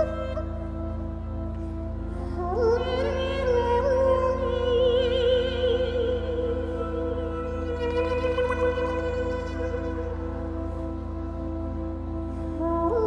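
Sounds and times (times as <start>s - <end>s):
droning backing track: 0.0s - 13.0s.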